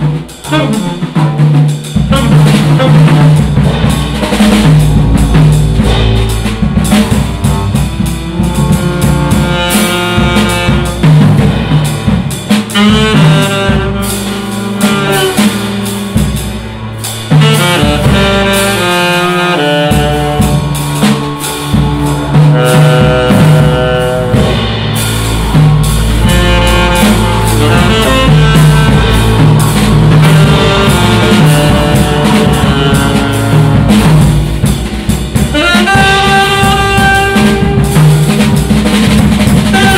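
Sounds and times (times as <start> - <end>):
double bass: 0.0 - 39.9
jazz drum kit: 0.0 - 39.9
saxophone: 0.2 - 39.9.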